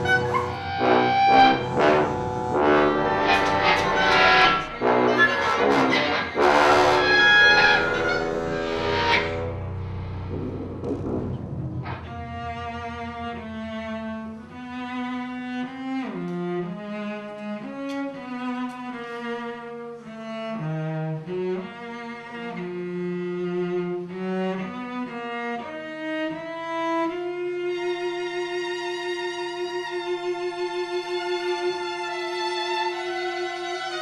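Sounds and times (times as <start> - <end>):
cello playing slow melody: 0.0 - 34.0
orchestral strings: 0.0 - 34.0.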